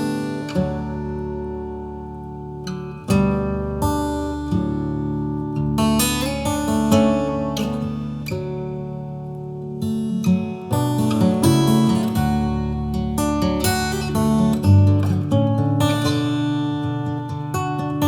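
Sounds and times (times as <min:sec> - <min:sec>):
acoustic guitar picking and strumming: 0:00.0 - 0:18.0.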